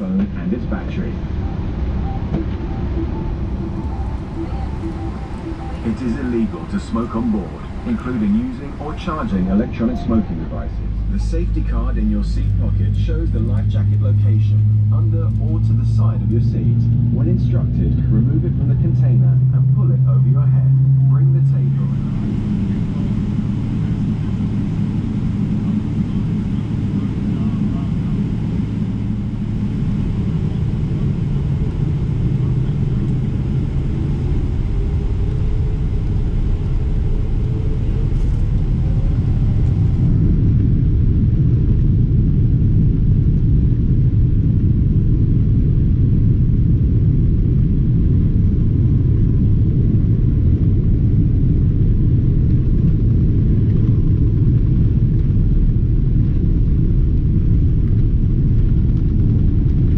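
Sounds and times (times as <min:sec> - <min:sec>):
faint rising engine tone: 0:00.0 - 0:53.0
jet engines rumbling in cabin: 0:00.0 - 0:59.9.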